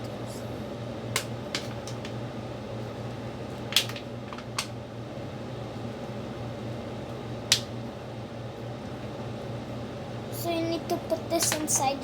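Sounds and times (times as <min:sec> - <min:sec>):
room fan humming: 0:00.0 - 0:12.0.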